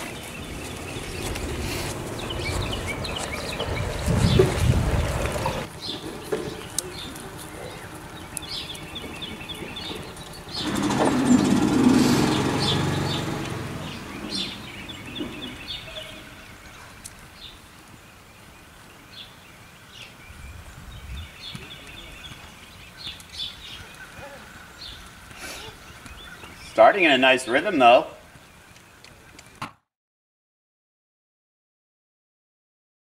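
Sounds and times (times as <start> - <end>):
small birds chirping: 0.0 - 29.6
outdoor background noise: 0.0 - 29.9.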